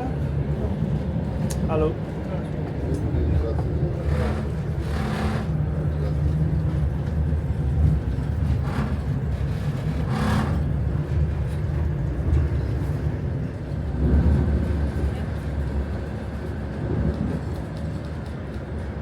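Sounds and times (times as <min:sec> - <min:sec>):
train carriage rumbling on rails: 0:00.0 - 0:19.0.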